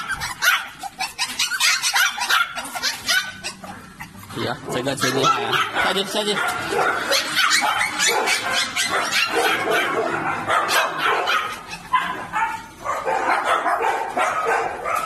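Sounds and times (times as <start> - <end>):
puppies yapping and yelping: 0.0 - 15.0.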